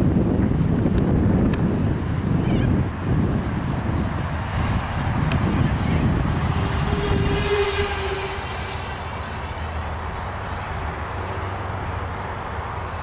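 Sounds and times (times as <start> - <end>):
quadcopter propellers buzzing: 2.0 - 13.0.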